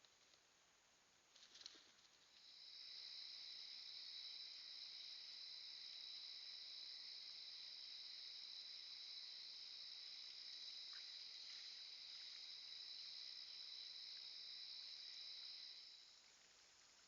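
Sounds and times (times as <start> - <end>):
insects chirring: 1.3 - 17.0.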